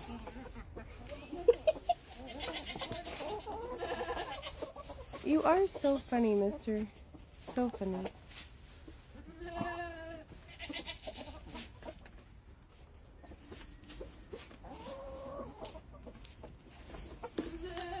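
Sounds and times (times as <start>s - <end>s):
chickens calling: 0.0s - 18.0s
chickens scratching in straw: 0.0s - 18.0s.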